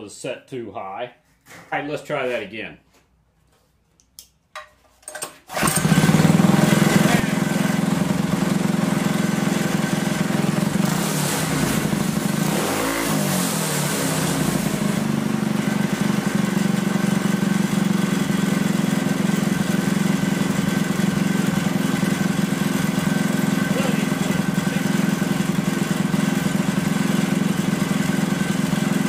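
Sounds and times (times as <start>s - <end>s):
single-cylinder engine running: 5.5s - 29.0s.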